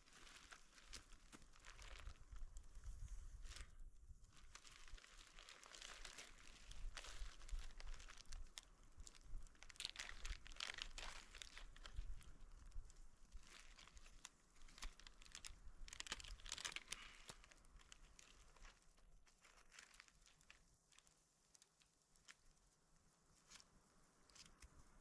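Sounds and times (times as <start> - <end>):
faint crinkling and crackling: 0.0 - 25.0.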